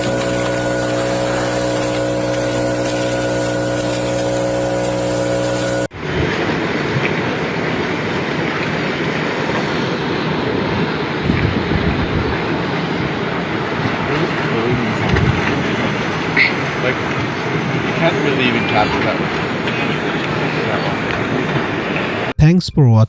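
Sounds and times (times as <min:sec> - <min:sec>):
steady engine-like drone: 0:00.0 - 0:22.2
loud noisy rumble: 0:00.0 - 0:22.6.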